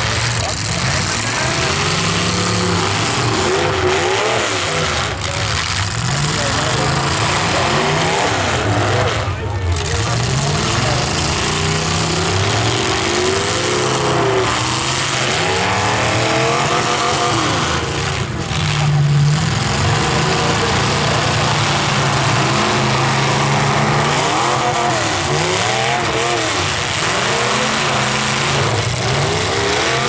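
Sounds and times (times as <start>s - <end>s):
car engines revving: 0.0s - 30.0s
constant loud din: 0.0s - 30.0s.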